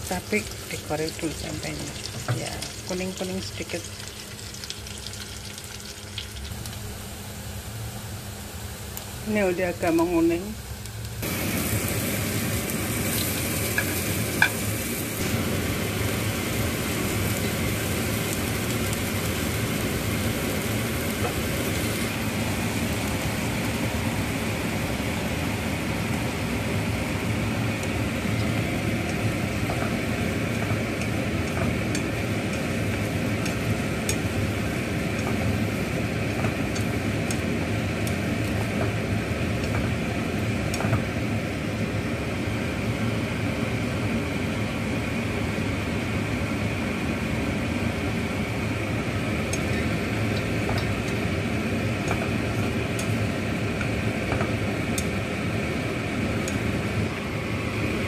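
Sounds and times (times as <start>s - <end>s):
sizzle of stir-frying in oil: 0.0s - 58.0s.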